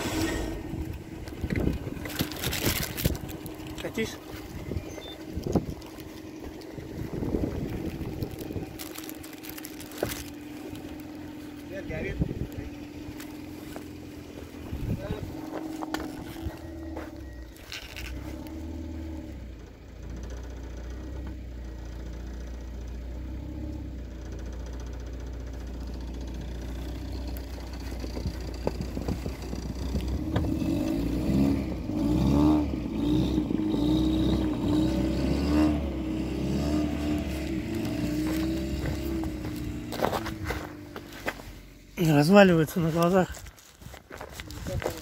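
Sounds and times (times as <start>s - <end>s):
car engine revving: 0.0s - 42.0s.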